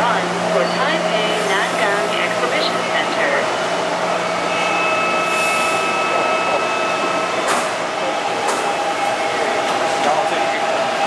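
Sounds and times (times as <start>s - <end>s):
electric train whine: 0.0s - 11.0s.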